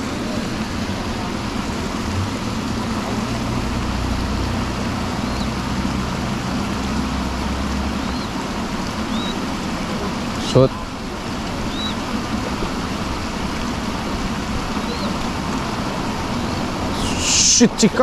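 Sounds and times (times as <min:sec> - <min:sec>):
water rushing over weir: 0:00.0 - 0:18.0.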